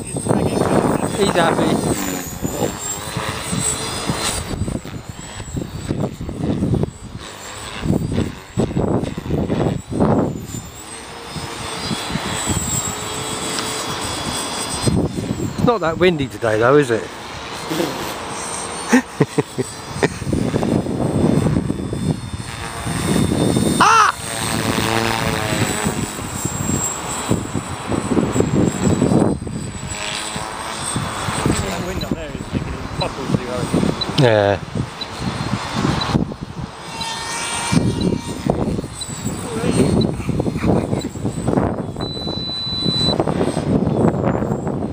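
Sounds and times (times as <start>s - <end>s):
wind buffeting microphone: 0.0s - 16.7s, 19.2s - 44.9s
rc helicopter whine: 0.0s - 44.9s.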